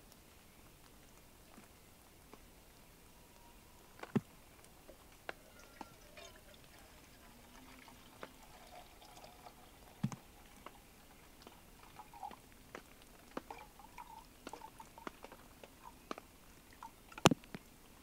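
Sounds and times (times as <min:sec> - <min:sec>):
water drips: 0:00.0 - 0:18.0.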